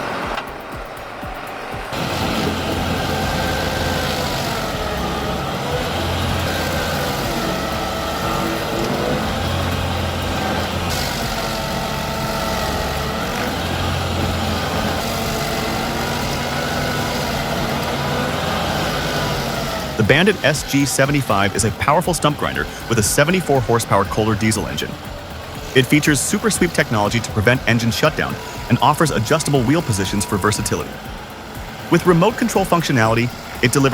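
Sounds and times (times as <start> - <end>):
heavy machine engine running: 0.0 - 33.9
wavering whine: 0.0 - 33.9.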